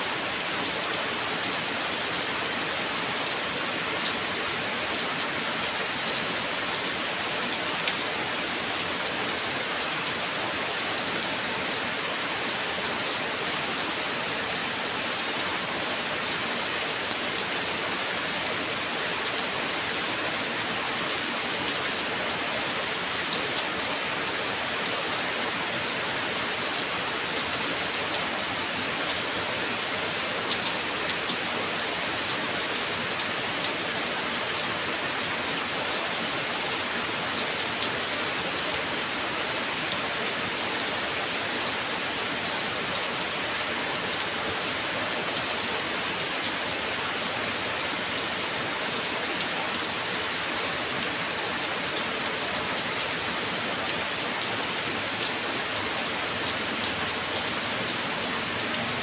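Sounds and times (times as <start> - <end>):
heavy rain on hard surface: 0.0 - 59.0.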